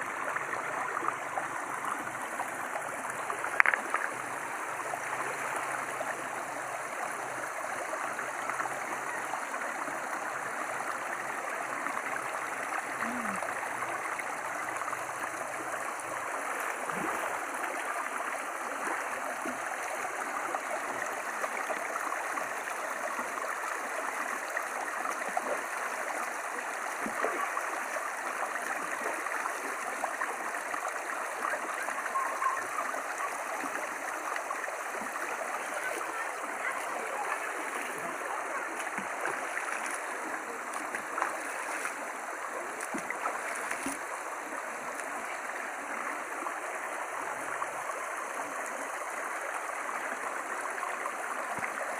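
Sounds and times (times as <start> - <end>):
stream running over stones: 0.0 - 51.9.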